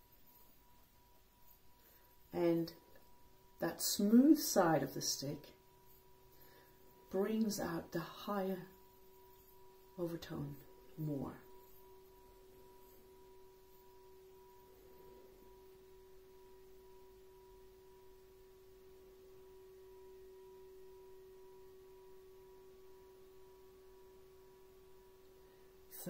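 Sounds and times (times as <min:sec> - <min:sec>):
singing bowl ringing: 0:00.0 - 0:26.0.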